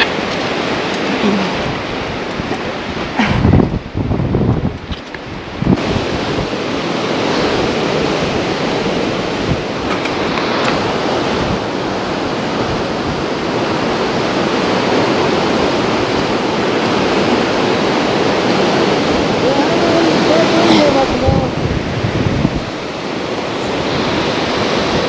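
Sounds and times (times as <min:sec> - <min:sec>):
creek rushing over rocks: 0:00.0 - 0:25.0.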